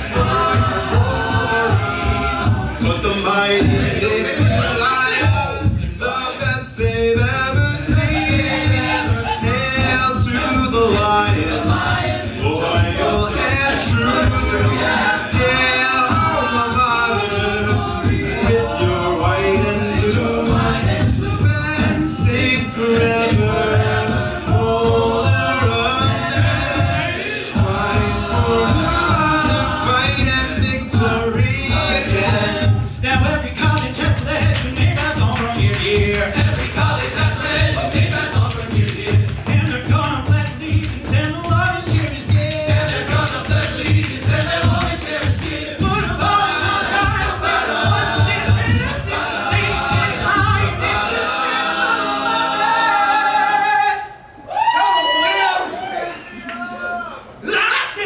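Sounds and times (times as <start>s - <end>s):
steady low beat: 0.0s - 51.8s
men singing a cappella harmony: 0.0s - 54.3s.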